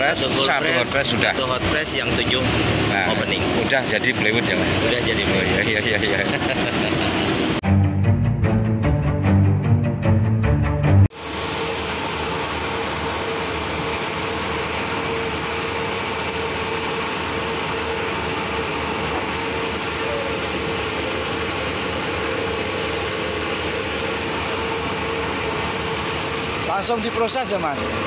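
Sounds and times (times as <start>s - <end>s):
glue spreader machine droning: 0.0s - 7.6s, 11.1s - 28.0s.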